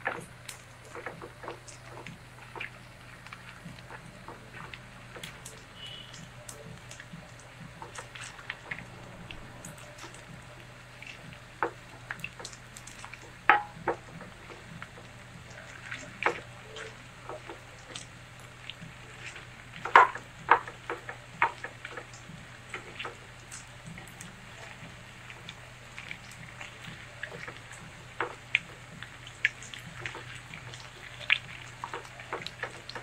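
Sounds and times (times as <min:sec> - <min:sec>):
batter frying in oil: 0:00.0 - 0:33.0.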